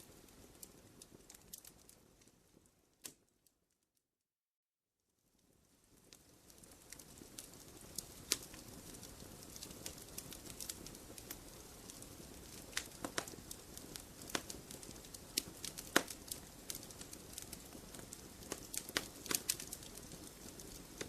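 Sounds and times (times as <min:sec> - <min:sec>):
wood fire crackling: 0:00.0 - 0:03.5, 0:05.1 - 0:21.0.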